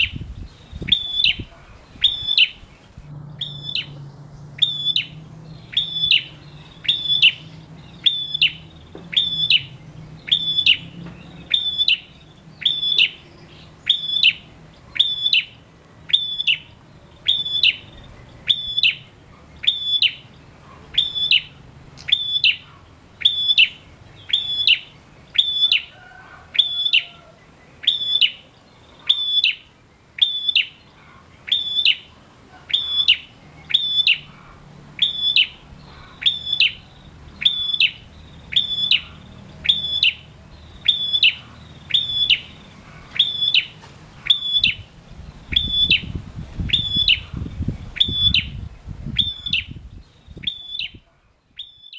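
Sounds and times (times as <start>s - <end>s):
bird chirping: 0.0s - 51.9s.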